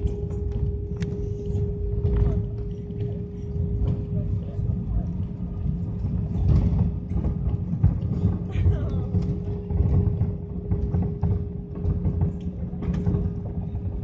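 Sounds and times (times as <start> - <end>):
cabin hum: 0.0 - 14.0.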